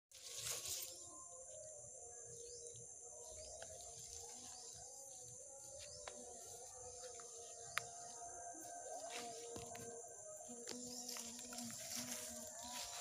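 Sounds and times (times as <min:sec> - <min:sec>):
insect drone: 0:00.1 - 0:13.0.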